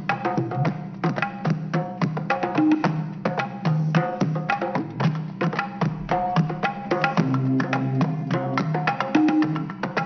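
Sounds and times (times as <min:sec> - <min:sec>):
pitched percussion music: 0:00.0 - 0:10.0.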